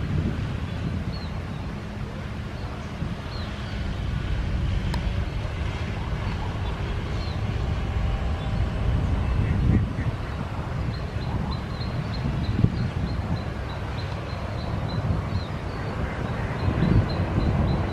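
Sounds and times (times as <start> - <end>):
cars passing on a road: 0.0 - 17.9
wind buffeting microphone: 0.0 - 17.9
motor scooter passing: 1.7 - 17.9.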